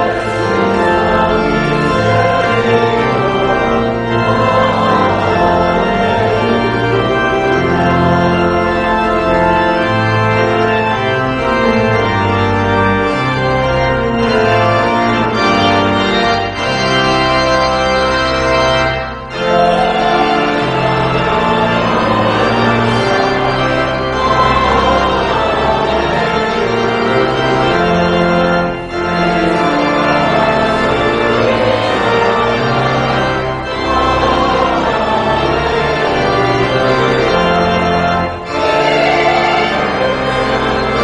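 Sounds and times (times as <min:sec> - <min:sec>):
pipe organ playing a hymn: 0:00.0 - 0:41.0.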